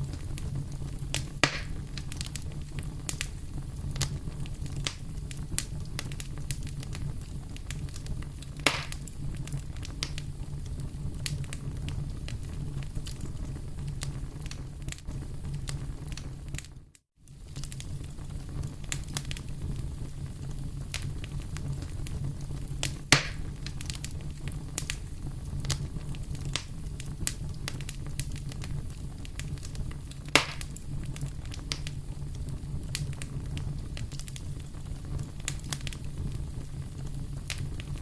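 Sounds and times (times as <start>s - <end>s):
fire crackling and popping: 0.0s - 38.0s
fire rumbling: 0.0s - 38.0s.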